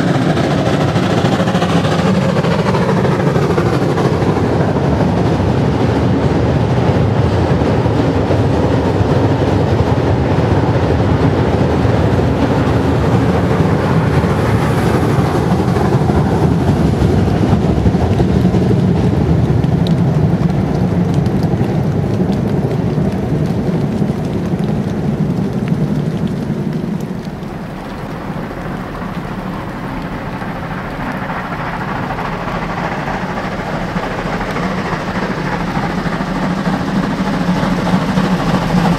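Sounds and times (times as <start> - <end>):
steam locomotive rumble and hiss: 0.0 - 38.9.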